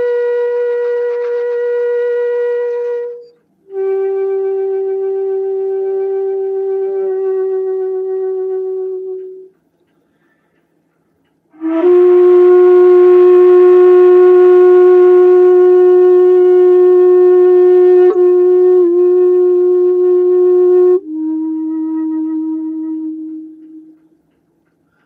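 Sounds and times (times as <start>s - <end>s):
bamboo flute solo: 0.0s - 9.6s, 11.5s - 24.0s.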